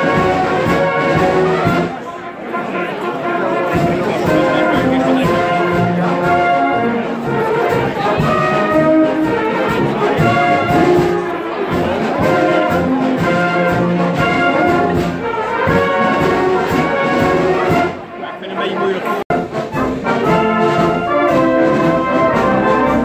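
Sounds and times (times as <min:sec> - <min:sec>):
brass band playing chords: 0:00.0 - 0:23.0.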